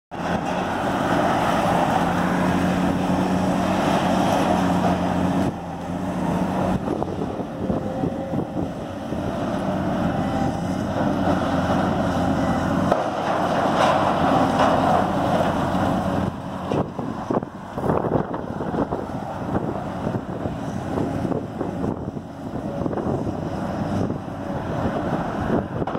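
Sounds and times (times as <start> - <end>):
passing traffic engine and road noise: 0.1 - 25.9.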